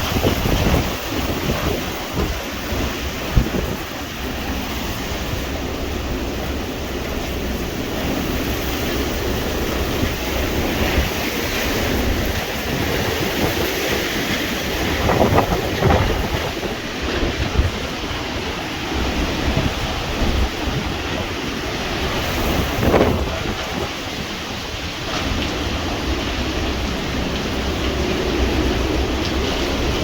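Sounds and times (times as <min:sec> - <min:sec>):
wind and rain roaring: 0:00.0 - 0:30.0
wind buffeting microphone: 0:00.0 - 0:30.0.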